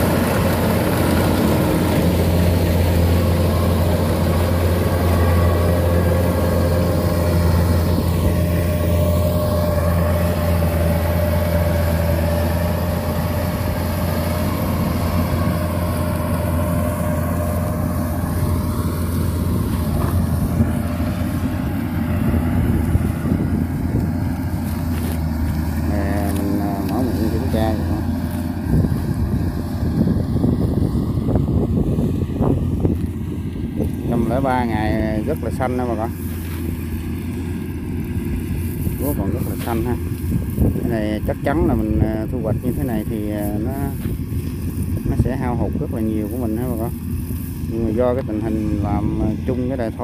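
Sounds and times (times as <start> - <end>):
combine harvester diesel engine: 0.0 - 50.0.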